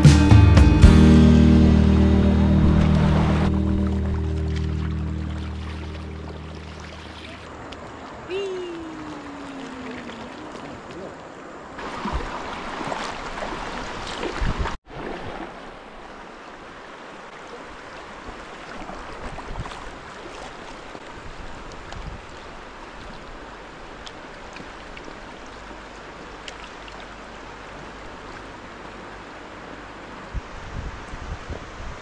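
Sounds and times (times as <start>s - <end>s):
river water flowing: 0.0s - 32.0s.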